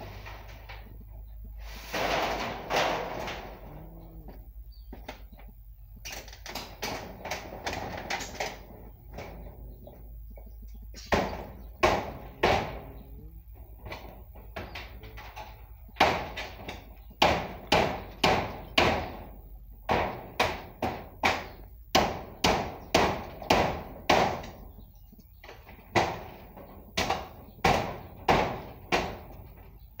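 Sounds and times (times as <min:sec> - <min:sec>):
hammer striking metal roofing: 0:00.0 - 0:01.0, 0:01.6 - 0:04.3, 0:06.0 - 0:24.8, 0:25.4 - 0:30.0.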